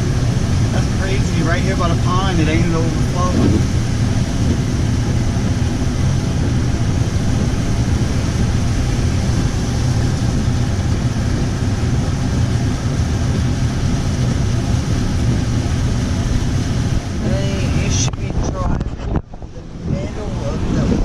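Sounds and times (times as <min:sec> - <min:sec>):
car engine and road noise: 0:00.0 - 0:21.0
low hum: 0:00.0 - 0:21.0.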